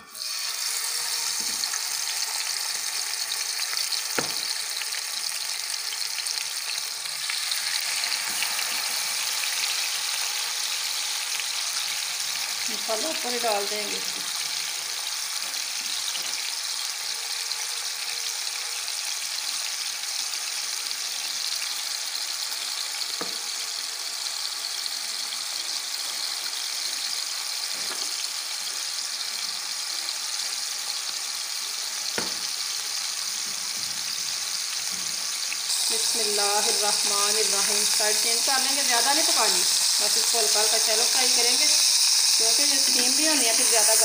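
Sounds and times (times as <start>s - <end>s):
fish sizzling in oil: 0.0s - 44.0s.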